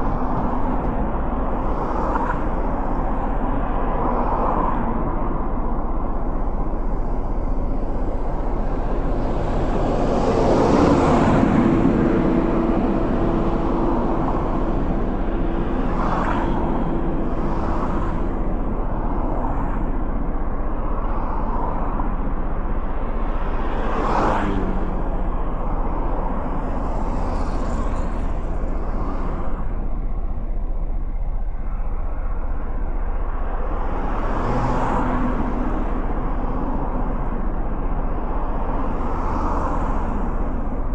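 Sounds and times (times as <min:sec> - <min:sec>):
cars passing: 0:00.0 - 0:40.9.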